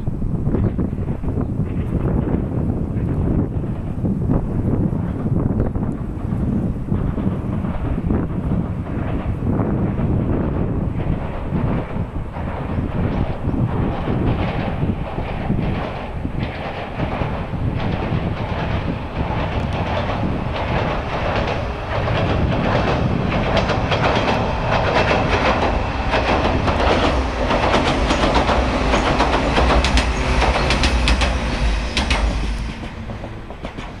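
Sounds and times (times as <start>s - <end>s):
train wheels rumbling on bridge: 0.0s - 34.0s
clickety-clack over rail joints: 0.5s - 34.0s.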